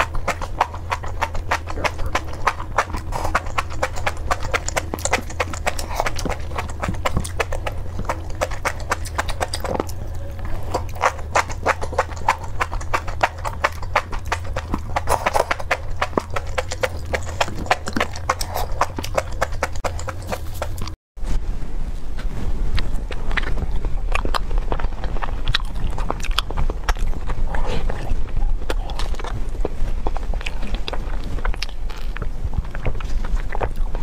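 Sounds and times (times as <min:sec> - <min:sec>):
wet chewing and mouth smacking: 0:00.0 - 0:21.0, 0:22.7 - 0:34.0.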